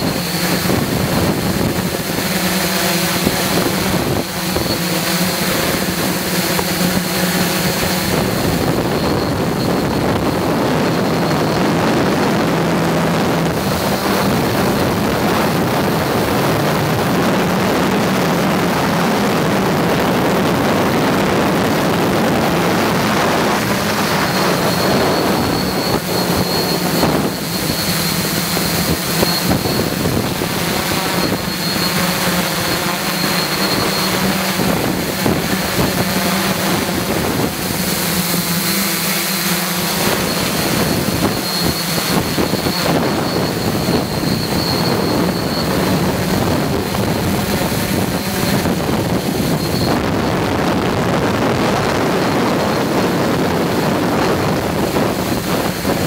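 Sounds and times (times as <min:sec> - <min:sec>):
drone propellers buzzing: 0:00.0 - 0:56.0
wind on microphone: 0:00.0 - 0:56.0.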